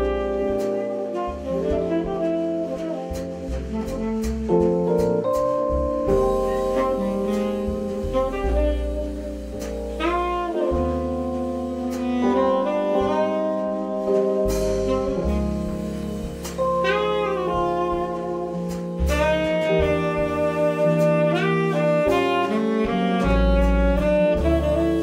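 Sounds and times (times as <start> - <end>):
saxophone ballad melody: 0.0 - 25.0
walking double bass: 0.0 - 25.0.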